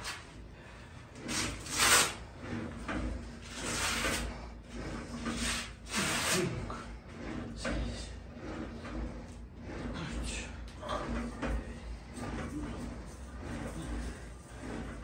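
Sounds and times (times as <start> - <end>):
leg press sled sliding on rails: 0.0 - 15.0.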